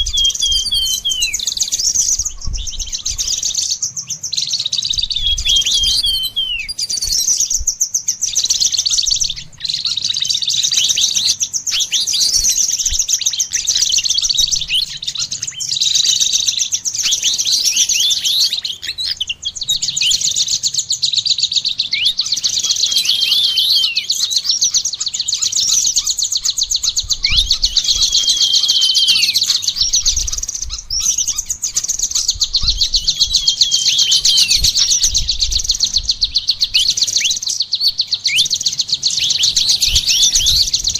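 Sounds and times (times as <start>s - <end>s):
songbirds twittering: 0.0s - 40.9s.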